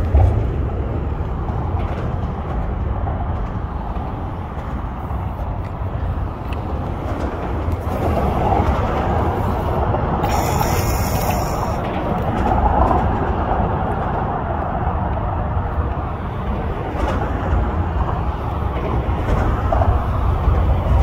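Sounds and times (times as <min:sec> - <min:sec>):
train passing rumble: 0:00.0 - 0:21.0.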